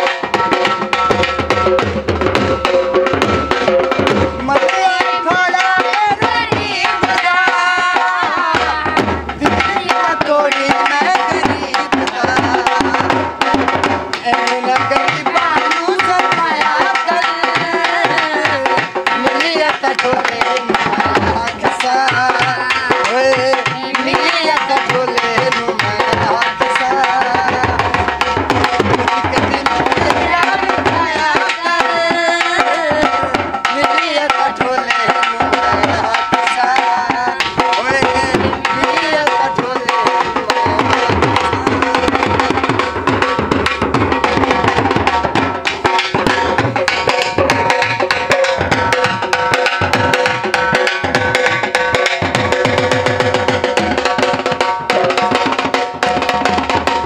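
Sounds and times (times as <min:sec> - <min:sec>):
dhol drum beaten with sticks: 0:00.0 - 0:57.0.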